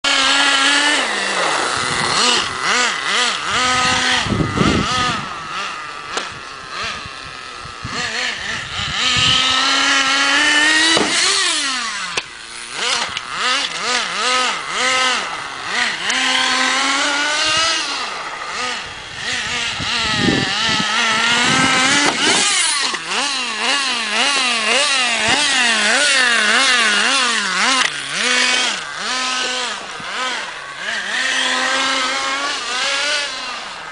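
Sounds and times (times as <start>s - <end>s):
two-stroke engine revving: 0.0s - 33.9s.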